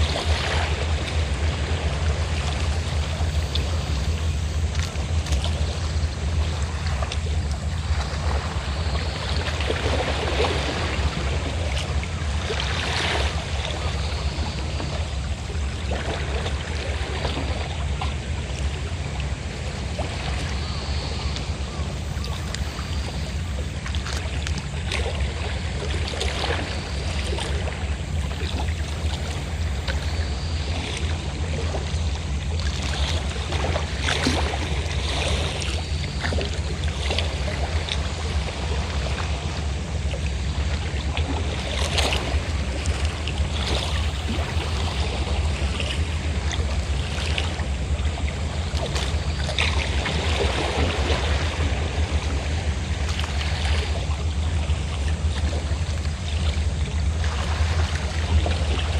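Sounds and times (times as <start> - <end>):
boat engine droning: 0.0 - 58.9
sea waves splashing on shore: 0.0 - 58.9.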